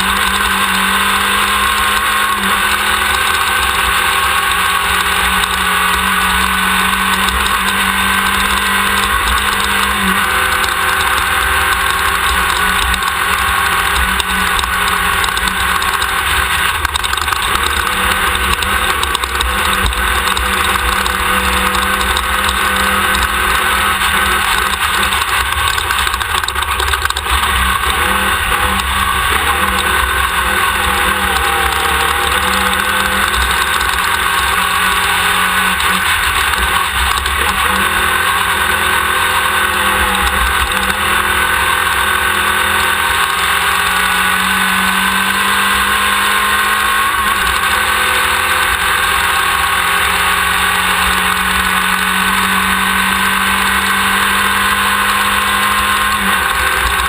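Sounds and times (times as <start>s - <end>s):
race car engine drone: 0.0s - 57.0s.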